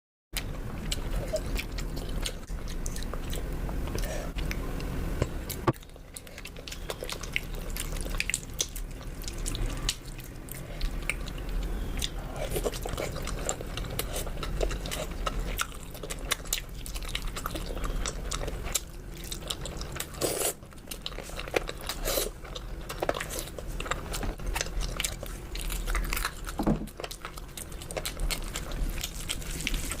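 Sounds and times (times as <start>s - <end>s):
crunchy chewing: 0.4s - 30.0s.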